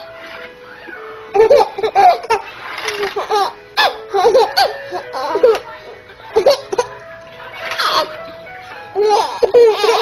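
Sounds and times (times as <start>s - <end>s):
babies laughing: 0.7s - 8.2s, 8.9s - 10.0s.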